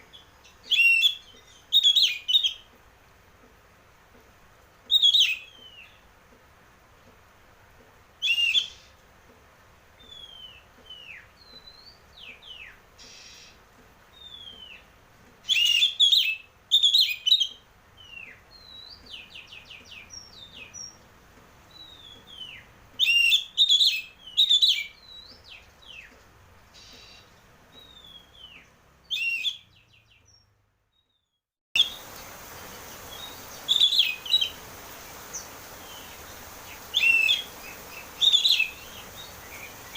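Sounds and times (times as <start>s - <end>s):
bird singing: 0.0s - 2.7s, 4.9s - 6.0s, 8.2s - 8.9s, 10.0s - 21.0s, 21.7s - 26.2s, 26.8s - 39.9s
steady hiss: 0.0s - 29.0s, 31.8s - 39.9s.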